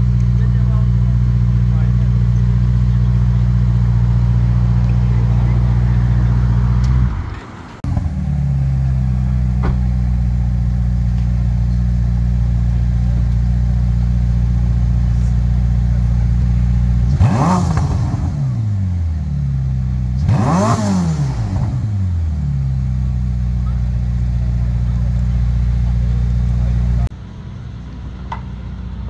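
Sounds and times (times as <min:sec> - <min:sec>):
engine revving: 0:00.0 - 0:27.2
car engine idling: 0:00.0 - 0:29.0.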